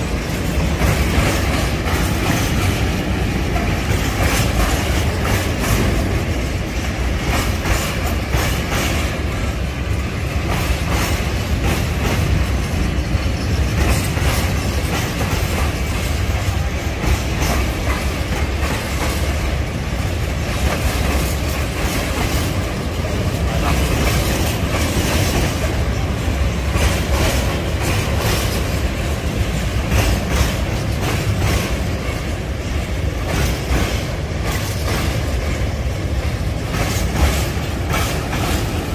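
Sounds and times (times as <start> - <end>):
train rumbling along track: 0.0 - 38.9
wheels clattering over rail joints: 0.0 - 38.9.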